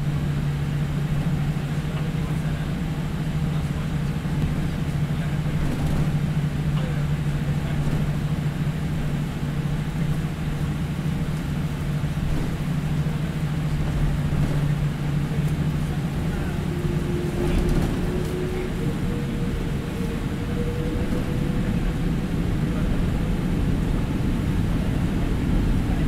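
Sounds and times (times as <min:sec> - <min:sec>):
jet engine hum: 0:00.0 - 0:26.0.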